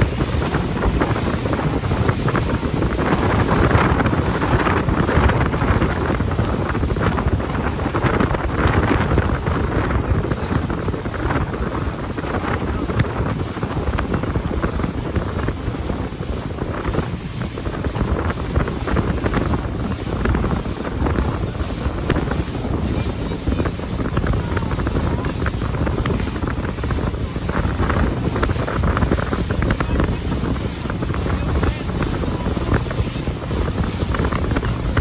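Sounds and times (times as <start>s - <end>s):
boat motor rushing: 0.0s - 35.0s
water rushing: 0.0s - 35.0s
wind buffeting microphone: 0.0s - 35.0s.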